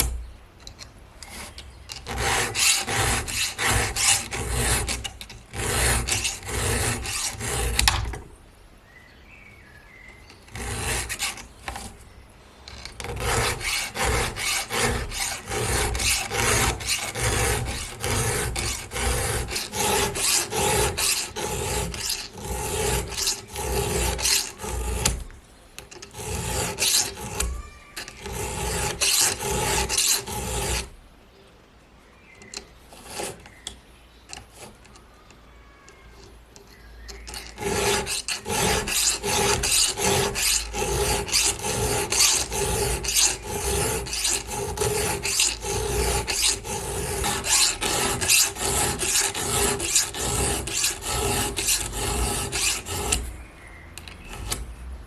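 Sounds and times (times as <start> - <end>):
file scraping chainsaw chain: 0.0 - 8.1, 10.3 - 12.0, 12.6 - 30.9, 32.4 - 33.6, 34.3 - 35.0, 36.1 - 53.4, 54.0 - 54.7.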